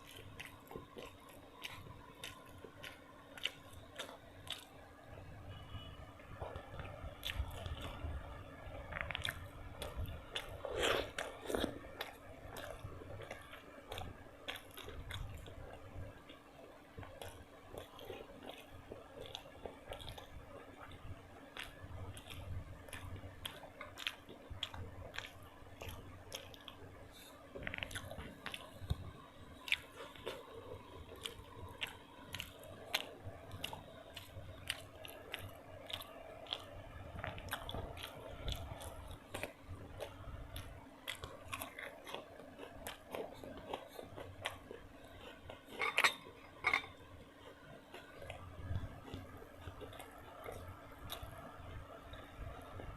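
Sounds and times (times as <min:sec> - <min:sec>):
food crunching: 0:00.0 - 0:04.8, 0:06.4 - 0:52.9
person chewing food: 0:00.0 - 0:05.0, 0:06.4 - 0:52.9.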